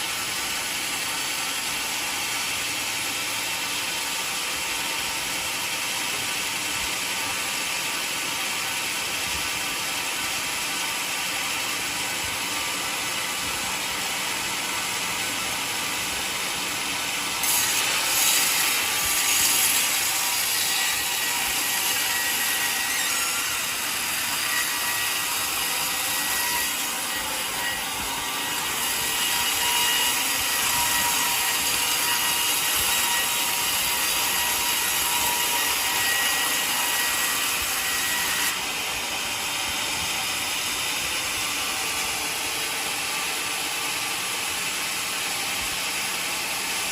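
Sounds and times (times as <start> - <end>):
sawmill blade cutting log: 0.0 - 46.9.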